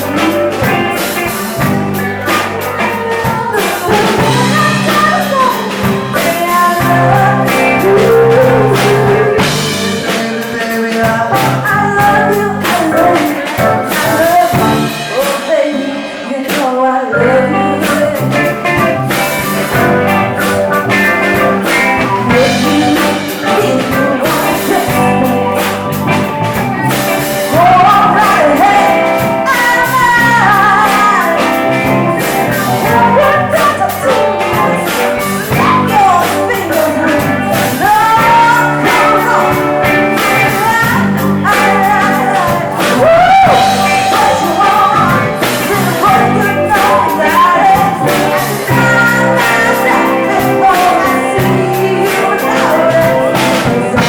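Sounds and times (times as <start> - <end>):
bending lead melody: 0.0 - 16.2, 17.1 - 54.0
live band playing soul music: 0.0 - 54.0.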